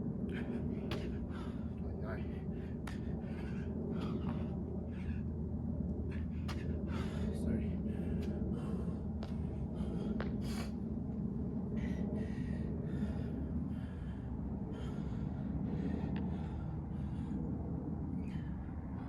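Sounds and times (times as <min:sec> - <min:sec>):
steady low rumble: 0:00.0 - 0:19.0
person breathing hard: 0:00.2 - 0:19.0.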